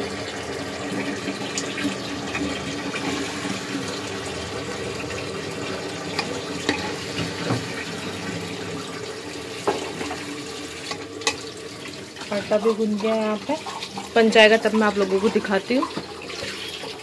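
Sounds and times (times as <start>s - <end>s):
rushing kitchen noise with hum: 0.0s - 17.0s.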